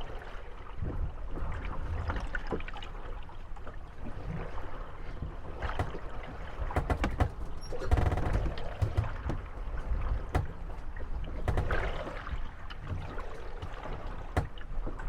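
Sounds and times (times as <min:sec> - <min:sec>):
water sloshing at hulls: 0:00.0 - 0:15.0
wooden boats knocking and creaking: 0:00.8 - 0:15.0.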